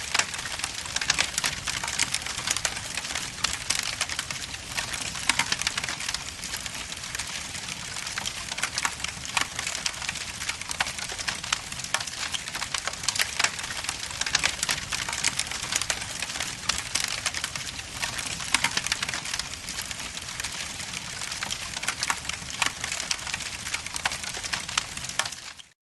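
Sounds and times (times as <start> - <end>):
logs crackling in fireplace: 0.0 - 25.7.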